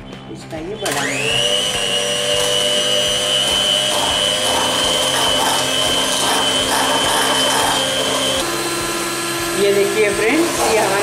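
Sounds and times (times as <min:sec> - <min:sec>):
electric hand mixer whipping cream: 0:00.6 - 0:11.0.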